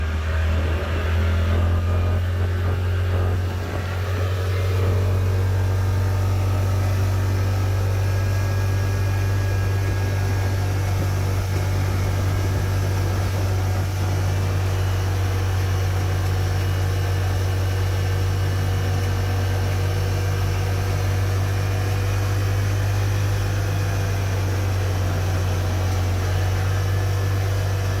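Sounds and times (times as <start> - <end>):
utility vehicle engine drone: 0.0 - 28.0.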